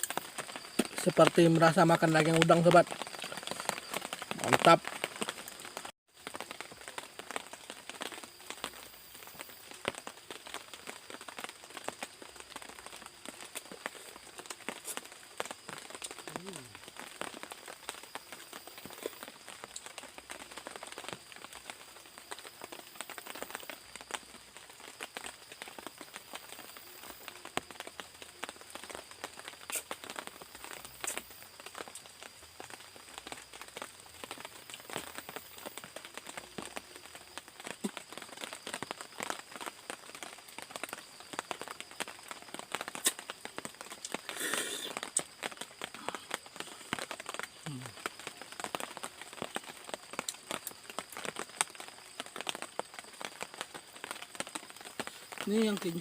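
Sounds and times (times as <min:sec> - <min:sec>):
raindrops pattering: 0:00.0 - 0:56.0
rustle: 0:00.0 - 0:56.0.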